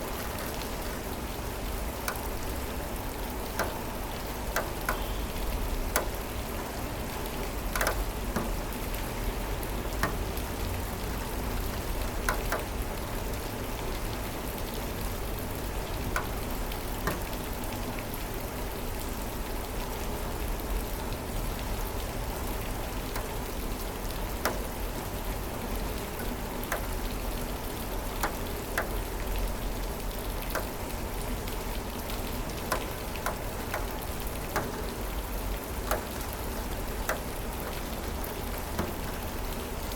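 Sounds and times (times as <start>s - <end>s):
heavy raindrops hitting: 0.0s - 39.9s
steady rain: 0.0s - 39.9s.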